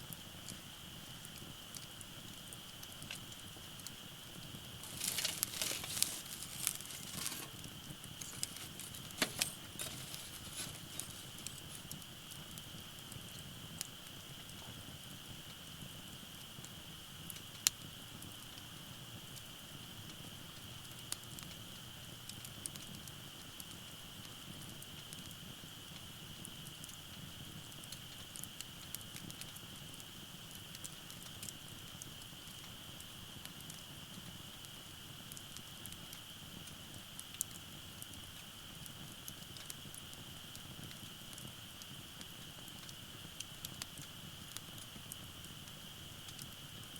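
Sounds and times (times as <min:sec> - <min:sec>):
firewood crackling and popping: 0:00.0 - 0:46.9
low rumble of flame: 0:00.0 - 0:46.9.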